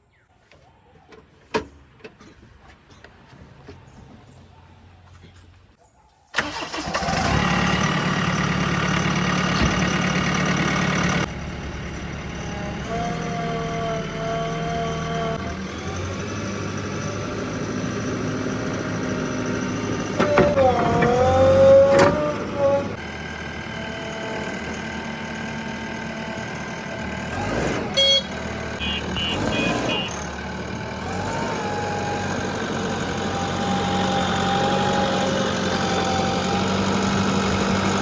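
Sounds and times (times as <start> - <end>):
diesel engines running: 6.4 - 38.0.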